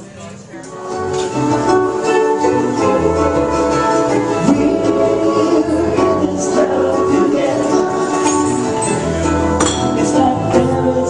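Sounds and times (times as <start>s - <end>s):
ukulele: 0.6s - 11.0s
strummed acoustic guitar: 0.7s - 11.0s
bass line: 1.3s - 11.0s.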